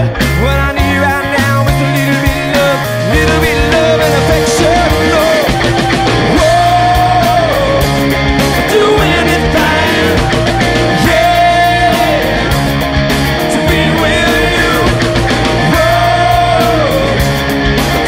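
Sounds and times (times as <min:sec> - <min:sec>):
rock music with singing: 0:00.0 - 0:18.0.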